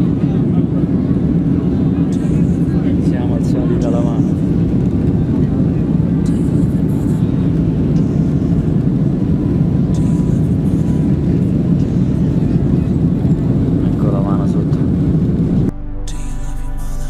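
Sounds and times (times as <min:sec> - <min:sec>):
jet engine roar in cabin: 0:00.0 - 0:15.7.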